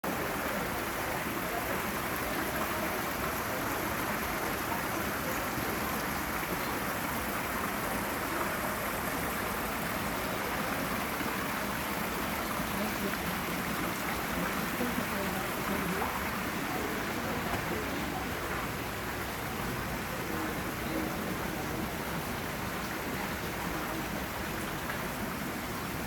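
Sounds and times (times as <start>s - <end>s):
fountain jets splashing into pool: 0.0s - 26.0s.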